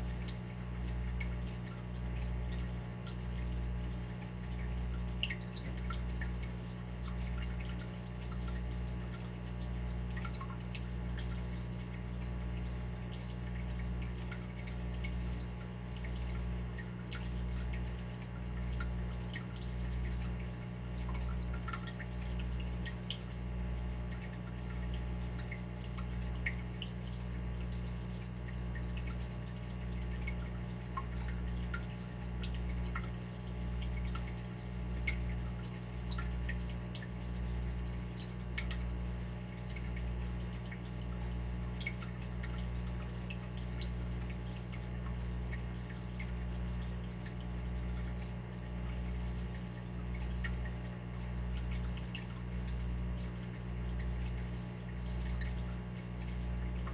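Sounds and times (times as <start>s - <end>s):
water dripping: 0.0s - 56.9s.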